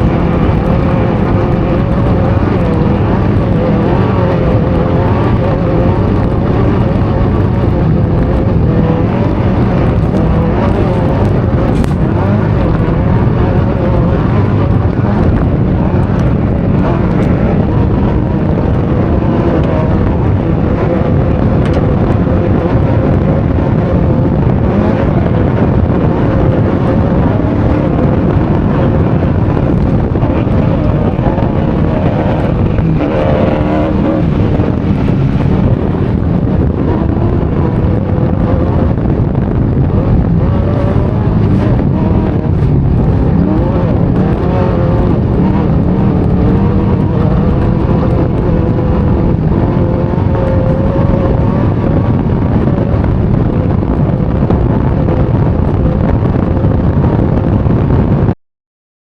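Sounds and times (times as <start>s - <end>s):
vehicle engine running hard: 0.0s - 58.4s
wind buffeting microphone: 0.0s - 58.4s.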